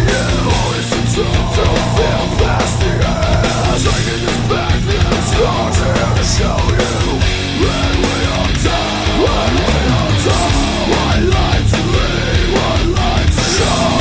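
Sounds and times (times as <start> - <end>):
drum hits: 0.0 - 14.0
electric guitar: 0.0 - 14.0
heavy rock music: 0.0 - 14.0.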